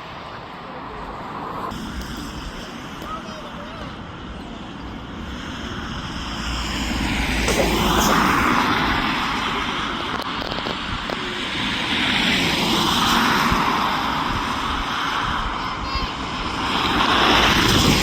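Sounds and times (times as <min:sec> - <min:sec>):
jet engines passing by: 0:00.0 - 0:18.0.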